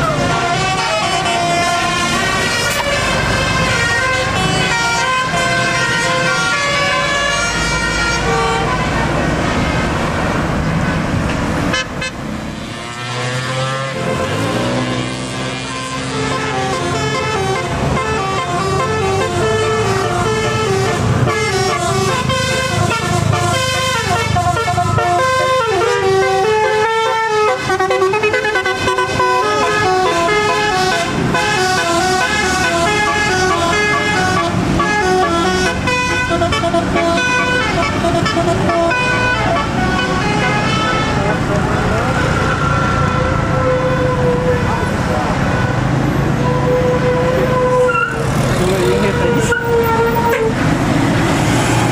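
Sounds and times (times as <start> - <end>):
bus horn playing melody: 0.0 - 9.6, 11.3 - 51.4
bus engine running: 0.0 - 51.9.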